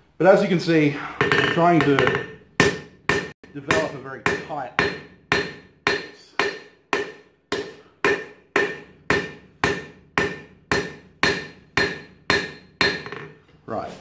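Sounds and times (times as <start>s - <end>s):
hammer striking steel on anvil: 1.2s - 13.4s.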